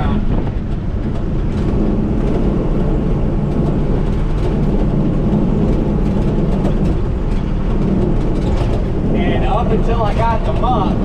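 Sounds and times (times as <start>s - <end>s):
vehicle engine rumbling under load: 0.0s - 11.0s.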